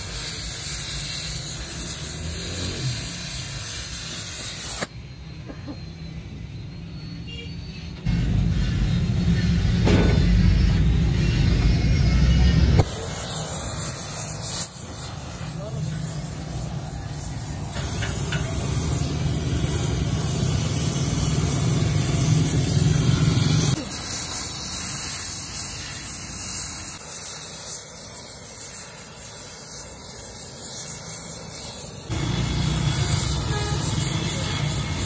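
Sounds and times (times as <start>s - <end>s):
gas torch flame hissing: 0.0s - 5.0s, 8.0s - 35.0s.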